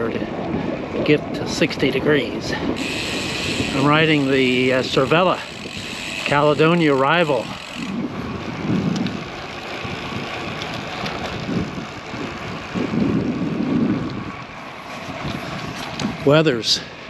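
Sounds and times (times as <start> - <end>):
bicycle road noise: 0.0 - 17.0
wind rushing over microphone: 0.0 - 17.0.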